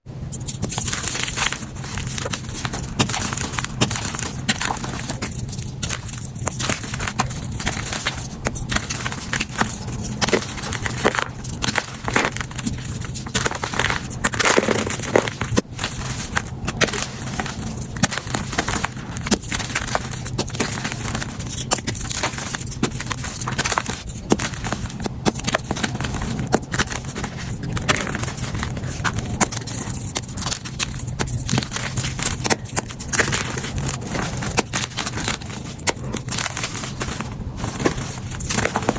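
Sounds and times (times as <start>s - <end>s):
chalk being crushed: 0.2s - 38.9s.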